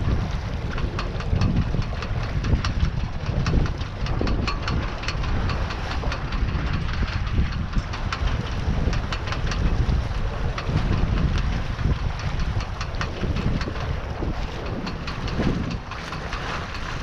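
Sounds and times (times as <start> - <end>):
water splashing against hull: 0.0 - 17.0
wind buffeting microphone: 0.0 - 17.0.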